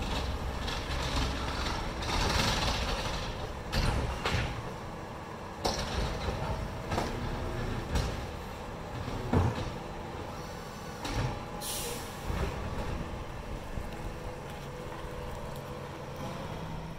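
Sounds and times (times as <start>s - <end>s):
hydraulic arm emptying cart: 0.0s - 4.9s, 5.5s - 16.9s
diesel engine running: 0.0s - 16.9s.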